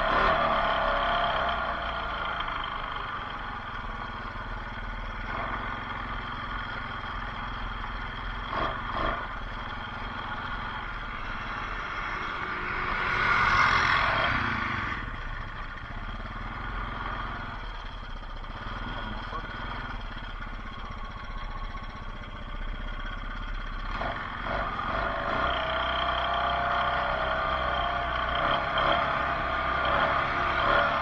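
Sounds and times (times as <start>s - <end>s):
motorbike engine running: 0.0s - 31.0s.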